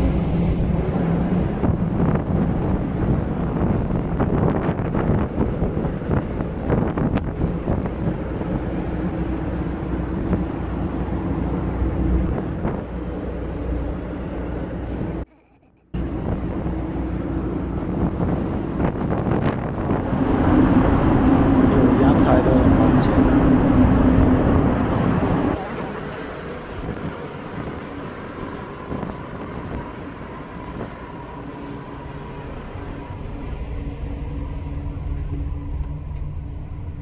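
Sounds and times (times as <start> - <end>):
wind buffeting microphone: 0.0 - 15.2, 16.0 - 37.0
ferry engine rumble: 0.0 - 37.0.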